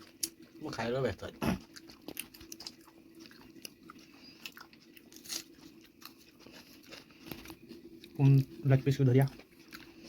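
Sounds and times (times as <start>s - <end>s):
person chewing and crunching food: 0.0s - 10.0s.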